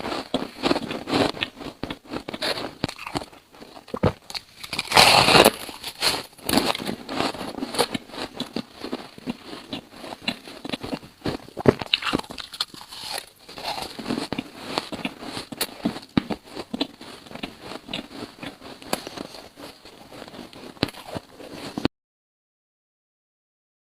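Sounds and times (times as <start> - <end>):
ice being chewed crunching: 0.0 - 21.9.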